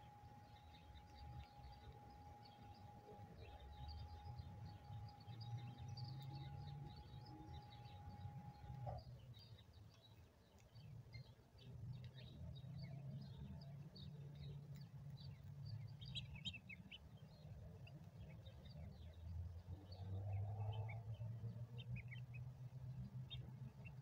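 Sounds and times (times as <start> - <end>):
birds chirping: 0.0 - 24.0
faint steady tone: 0.0 - 24.0.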